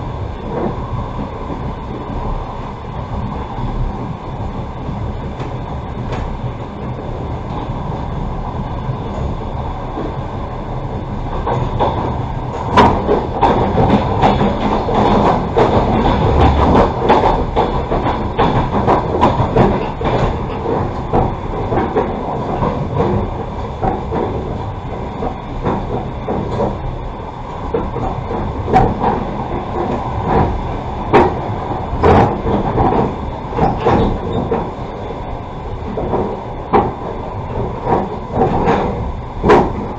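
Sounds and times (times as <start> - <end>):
train wheels rumbling on rails: 0.0 - 39.9
wheels clacking on rail joints: 0.0 - 39.9.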